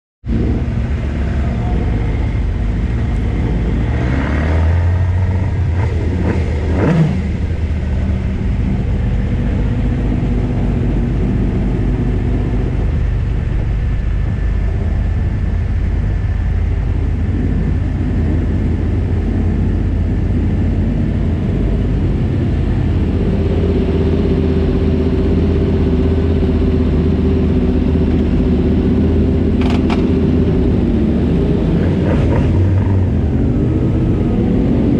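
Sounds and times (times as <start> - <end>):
motorcycles idling: 0.3 - 4.0, 4.8 - 34.2
motorcycle engine revving: 0.3 - 34.9.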